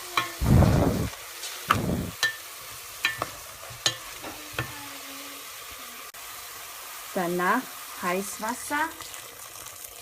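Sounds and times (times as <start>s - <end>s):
beef sizzling in a pan: 0.0s - 10.0s.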